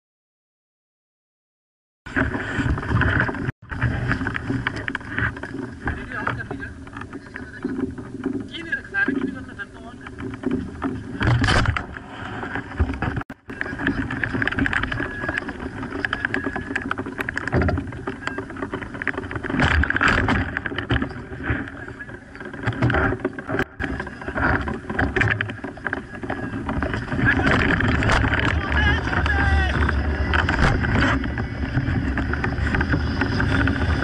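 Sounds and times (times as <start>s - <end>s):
harness fabric flapping: 2.1s - 34.0s
wind buffeting microphone: 2.1s - 34.0s.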